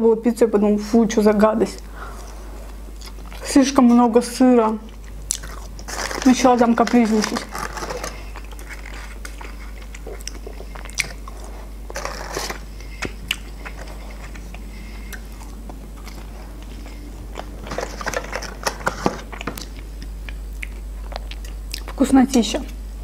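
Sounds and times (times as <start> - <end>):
person chewing fries: 2.0 - 3.5, 4.8 - 22.0.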